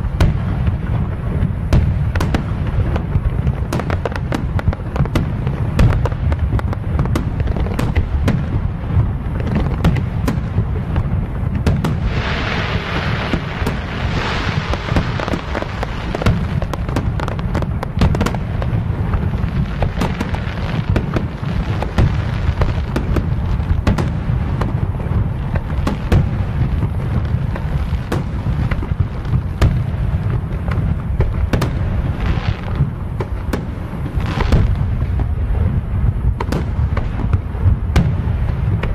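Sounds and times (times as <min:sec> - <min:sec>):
fireworks bursting: 0:00.0 - 0:38.9
fireworks hissing: 0:00.0 - 0:38.9.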